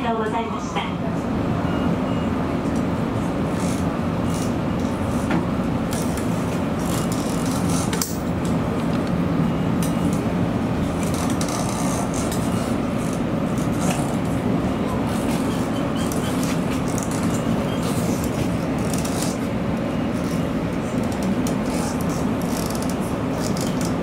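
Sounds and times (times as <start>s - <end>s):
electric train rumbling on rails: 0.0s - 24.0s.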